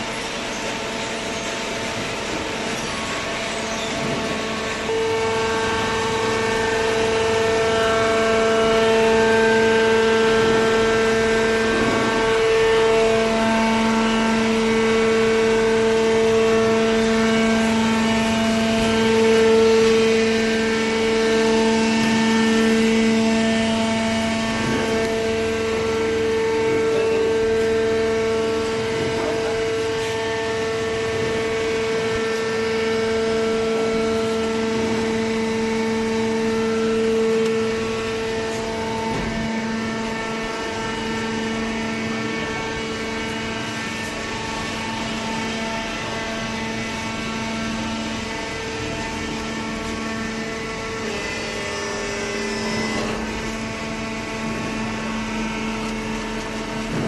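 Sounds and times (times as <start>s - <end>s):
motor and hydraulic pump whine: 0.0s - 57.0s.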